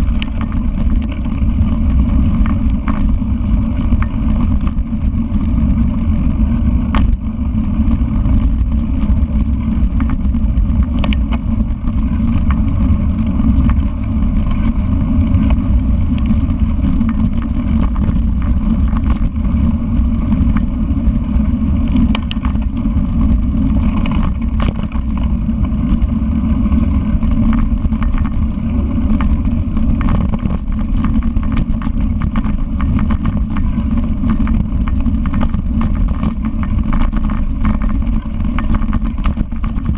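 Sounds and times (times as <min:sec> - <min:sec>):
bike clicks and rattles: 0:00.0 - 0:39.9
tyres rolling on dirt: 0:00.0 - 0:39.9
wind on microphone: 0:00.0 - 0:39.9.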